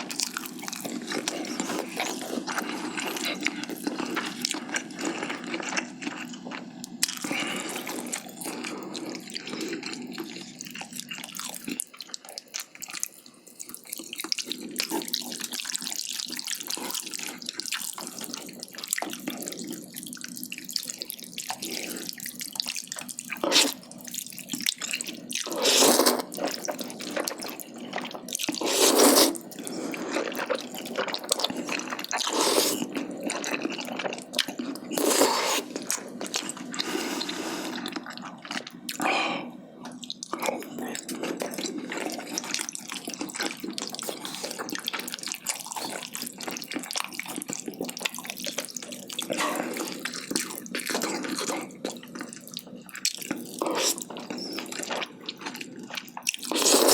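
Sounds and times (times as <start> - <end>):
wet chewing sounds: 0.0 - 56.9.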